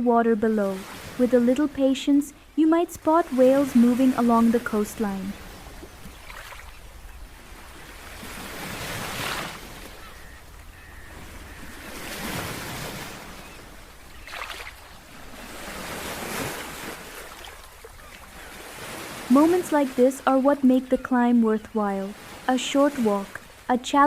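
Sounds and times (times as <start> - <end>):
ocean surf: 0.5 - 24.0.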